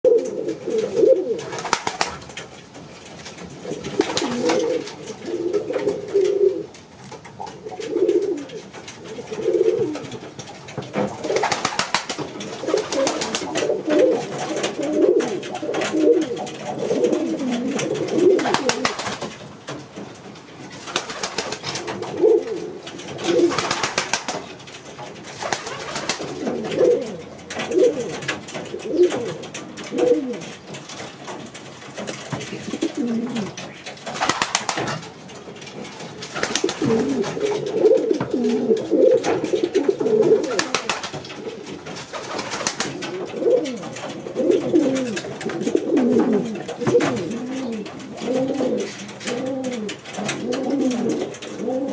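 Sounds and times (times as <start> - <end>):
pigeons cooing: 0.1 - 20.0, 20.6 - 51.9
sharp rustles: 0.4 - 51.9.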